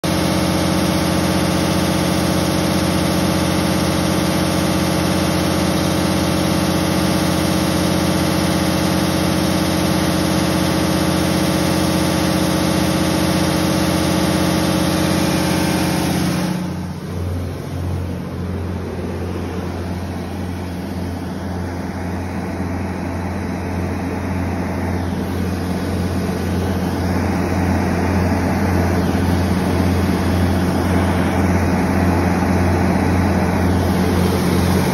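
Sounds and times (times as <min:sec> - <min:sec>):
diesel generator engine running: 0:00.0 - 0:34.9.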